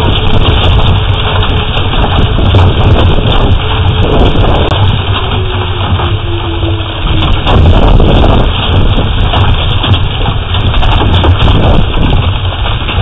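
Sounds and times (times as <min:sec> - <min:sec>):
hail hitting: 0:00.0 - 0:13.0
heavy rain: 0:00.0 - 0:13.0
wind: 0:00.0 - 0:13.0
wind buffeting microphone: 0:00.0 - 0:13.0.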